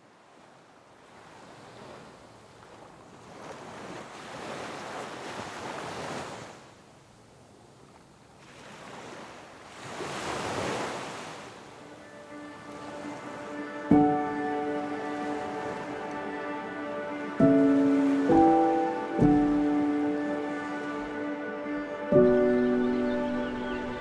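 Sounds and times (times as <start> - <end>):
waves washing in: 0.0 - 6.8, 8.4 - 24.0.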